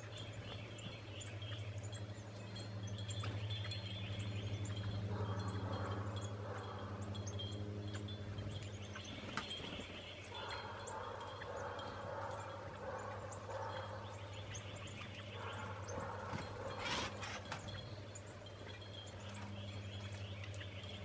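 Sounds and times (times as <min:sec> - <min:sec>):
songbirds chirping and twittering: 0:00.0 - 0:21.0
steady low hum: 0:00.0 - 0:21.0.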